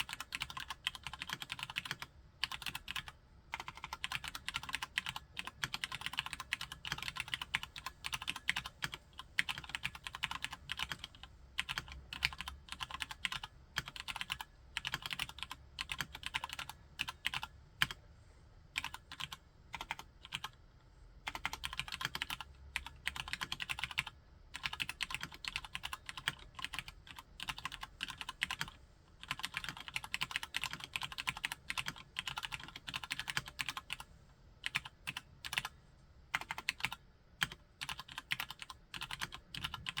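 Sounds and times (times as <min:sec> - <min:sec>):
mechanical keyboard typing: 0:00.0 - 0:18.0, 0:18.8 - 0:20.6, 0:21.3 - 0:40.0.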